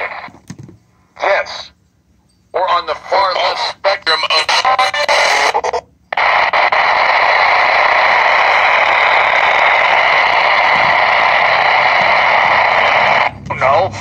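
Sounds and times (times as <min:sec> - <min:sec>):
radio static hiss: 0:00.0 - 0:00.4, 0:01.2 - 0:01.8, 0:02.6 - 0:14.0.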